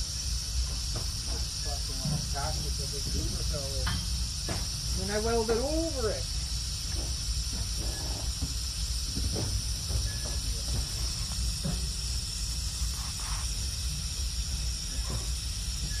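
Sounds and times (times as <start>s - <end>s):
welding arc hissing and crackling: 0.0s - 16.0s.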